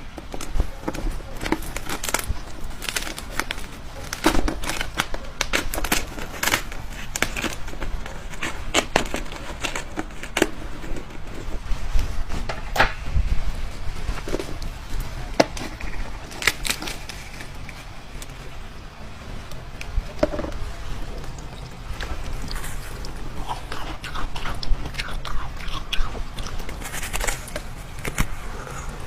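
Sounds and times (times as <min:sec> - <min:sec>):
crisp food chewing: 0:00.1 - 0:11.7, 0:14.0 - 0:18.6, 0:19.5 - 0:29.0.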